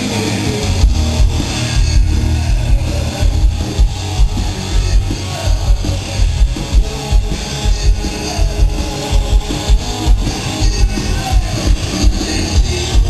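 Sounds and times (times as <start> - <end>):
electric guitars: 0.0 - 13.0
fast drum beat: 0.0 - 13.0
hard rock band playing: 0.0 - 13.0.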